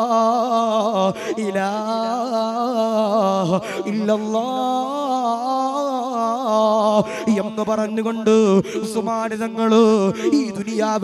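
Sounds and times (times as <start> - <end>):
man chanting through pa system: 0.0 - 11.0.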